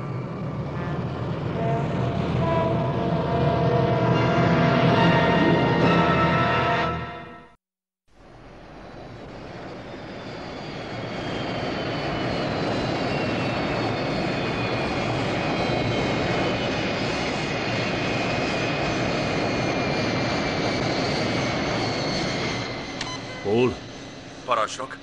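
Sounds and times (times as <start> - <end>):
spacecraft engine roar: 0.0 - 5.8, 8.3 - 25.0.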